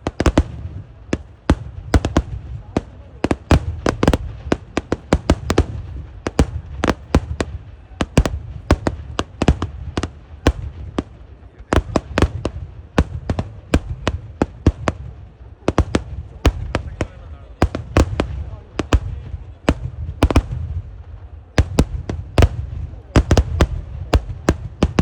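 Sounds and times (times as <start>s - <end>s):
firework explosive bangs: 0.0s - 25.0s.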